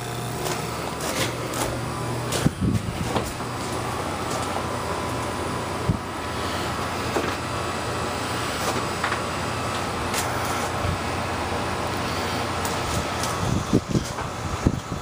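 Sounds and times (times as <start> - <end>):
machinery electrical hum: 0.0 - 15.0
thin steady whine: 0.0 - 15.0.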